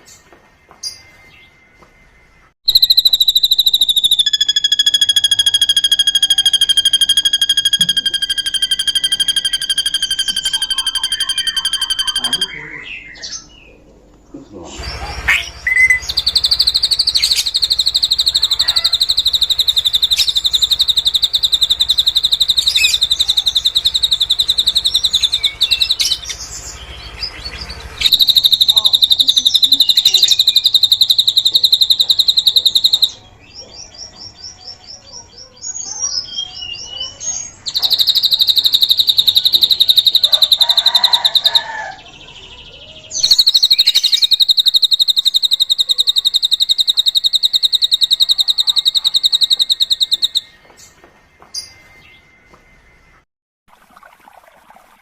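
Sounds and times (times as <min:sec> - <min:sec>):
bird singing high trills: 0:02.7 - 0:13.8, 0:15.0 - 0:33.7, 0:35.8 - 0:51.0.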